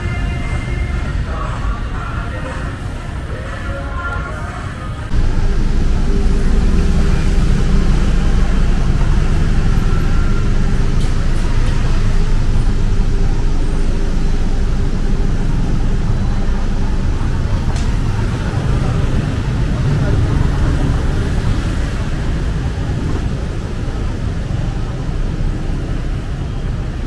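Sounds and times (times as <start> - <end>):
heavy low traffic rumble: 0.0 - 27.0
vehicles passing: 0.0 - 27.0.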